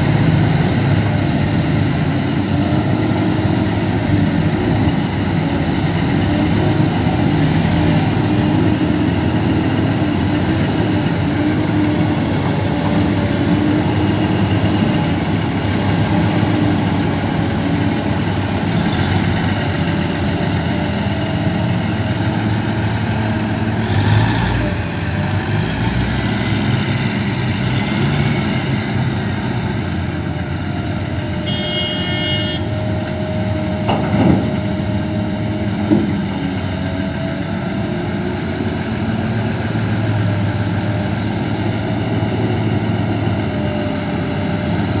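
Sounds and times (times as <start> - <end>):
diesel engines running under load: 0.0 - 45.0.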